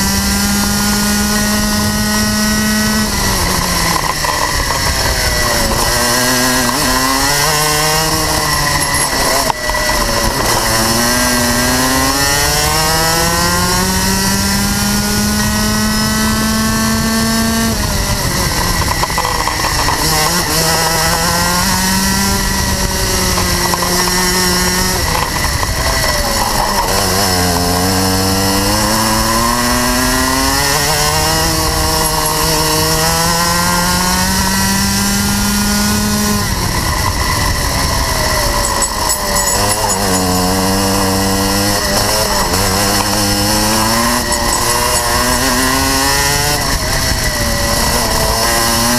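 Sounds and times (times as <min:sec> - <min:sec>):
kart engine revving: 0:00.0 - 0:48.9.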